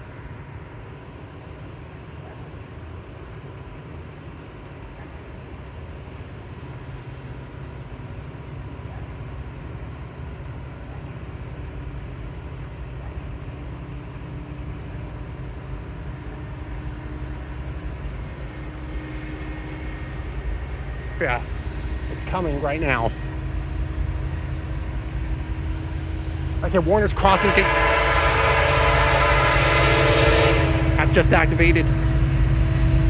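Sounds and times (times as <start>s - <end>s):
diesel freight train rumble: 0.0s - 33.0s.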